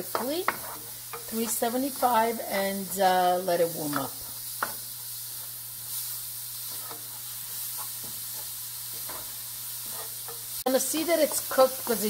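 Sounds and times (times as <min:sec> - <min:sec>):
wooden spoon scraping pan: 0:00.0 - 0:06.0, 0:06.6 - 0:10.6
food sizzling in oil: 0:00.0 - 0:12.0.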